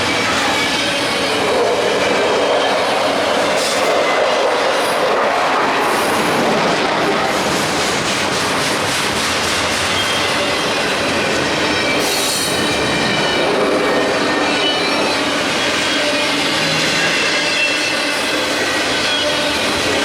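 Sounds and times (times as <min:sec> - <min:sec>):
train rolling on track: 0:00.0 - 0:20.0.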